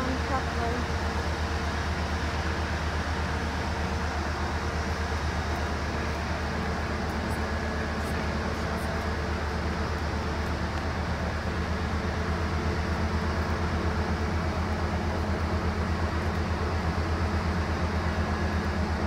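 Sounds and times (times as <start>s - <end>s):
locomotive engine idling: 0.0s - 19.0s.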